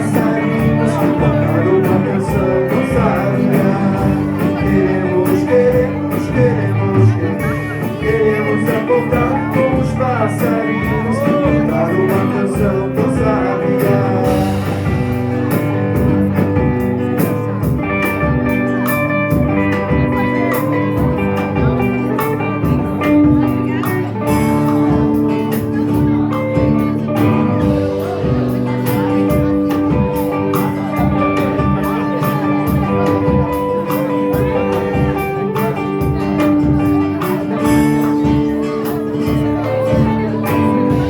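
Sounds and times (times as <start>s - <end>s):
guitar: 0.0s - 41.0s
live band playing instrumental: 0.0s - 41.0s
steady drum beat: 0.0s - 41.0s.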